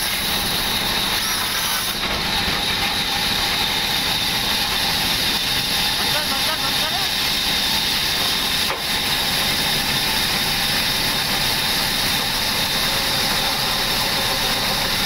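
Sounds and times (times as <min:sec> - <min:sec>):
high-pitched machine whine: 0:00.0 - 0:15.0
sawmill machinery hissing: 0:00.0 - 0:15.0.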